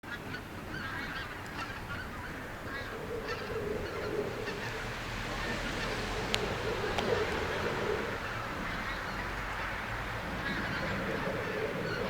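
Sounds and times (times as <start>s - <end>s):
geese honking: 0.2s - 12.0s.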